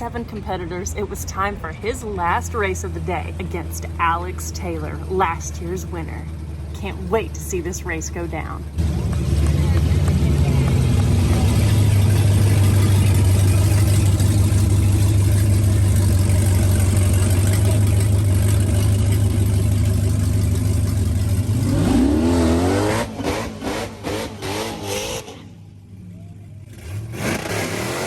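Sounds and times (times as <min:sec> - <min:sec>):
race car engines rumbling: 0:00.0 - 0:28.0.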